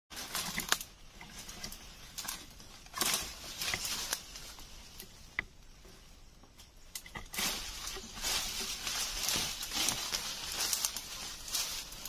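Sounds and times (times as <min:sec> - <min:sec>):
rustling and scuffling: 0:00.1 - 0:12.0.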